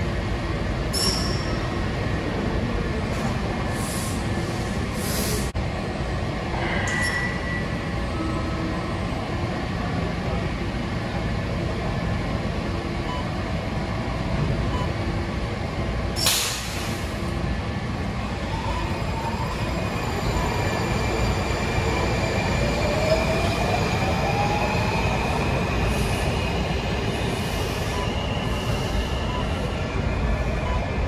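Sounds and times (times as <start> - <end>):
train rumbling on rails: 0.0 - 31.0.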